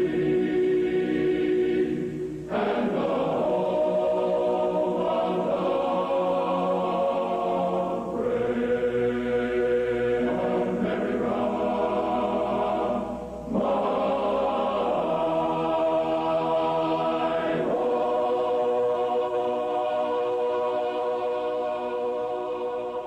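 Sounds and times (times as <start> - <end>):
choir singing held chords: 0.0 - 23.0.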